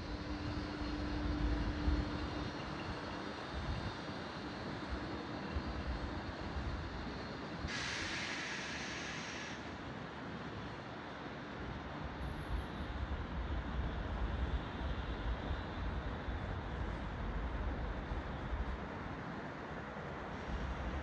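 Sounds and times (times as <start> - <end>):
train rumbling through station: 0.0 - 21.0.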